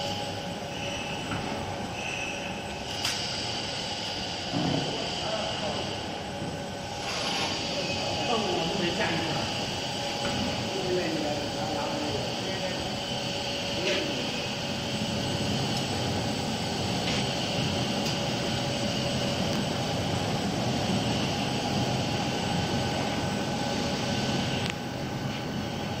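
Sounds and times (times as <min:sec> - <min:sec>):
fabric machine hum and whine: 0:00.0 - 0:26.0.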